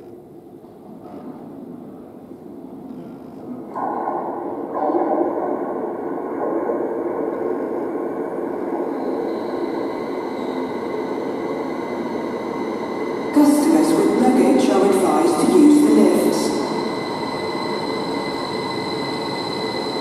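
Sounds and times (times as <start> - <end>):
faint high train whine: 0.0 - 20.0
train rumble echoing in tunnel: 0.0 - 20.0.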